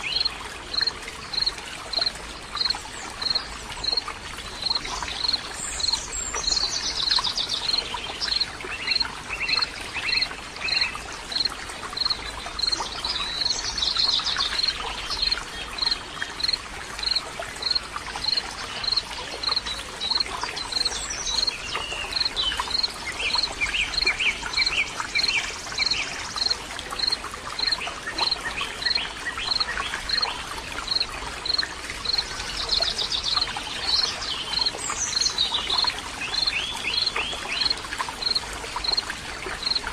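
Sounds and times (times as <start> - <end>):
songbird singing: 0.0 - 4.0, 4.6 - 39.0
running water: 0.0 - 39.9.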